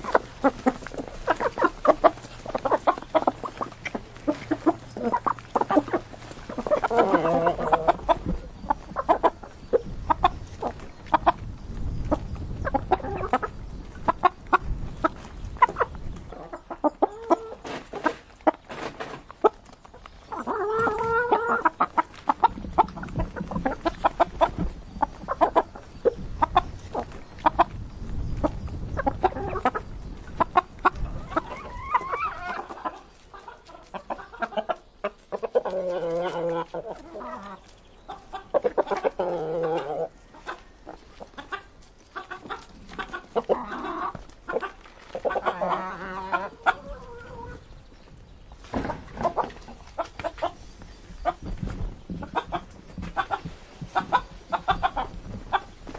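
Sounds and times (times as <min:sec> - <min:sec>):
chickens clucking: 0:00.0 - 0:55.9
chickens pecking: 0:00.0 - 0:55.9.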